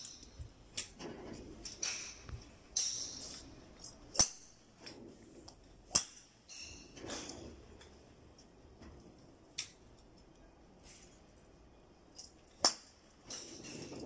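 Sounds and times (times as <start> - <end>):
golf clubs striking balls: 0.0 - 14.0.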